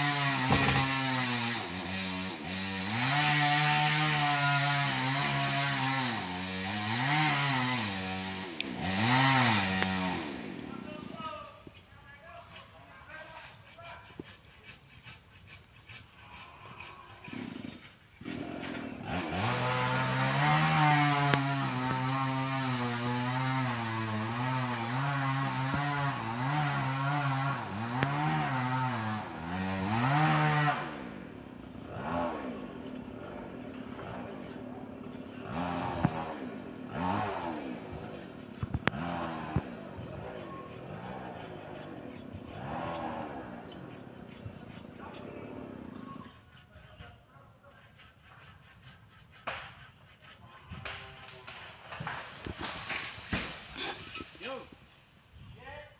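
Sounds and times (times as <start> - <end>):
chainsaw revving: 0.0 - 11.4, 16.7 - 46.5, 50.2 - 54.7.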